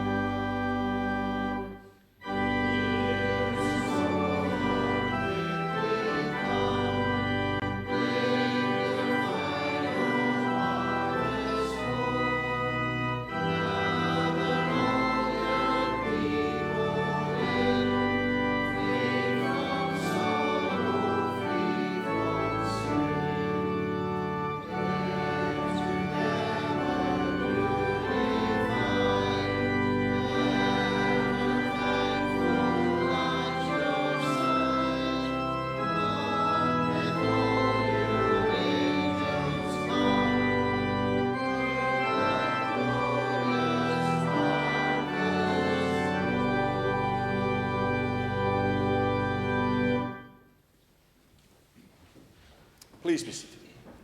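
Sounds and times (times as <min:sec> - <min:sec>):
church organ playing a hymn: 0:00.0 - 0:50.6, 0:53.0 - 0:53.6.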